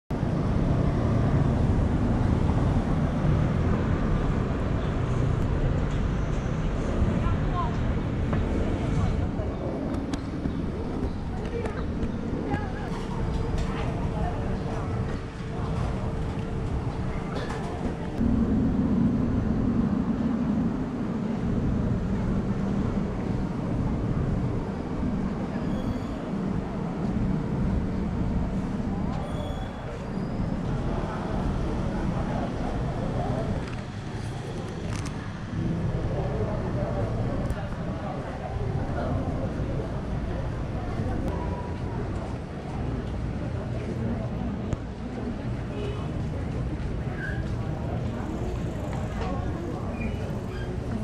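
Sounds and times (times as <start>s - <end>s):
background murmur: 0.1s - 51.0s
traffic rumble of cars and scooters: 0.1s - 51.0s
vehicle engine hum: 0.1s - 51.0s.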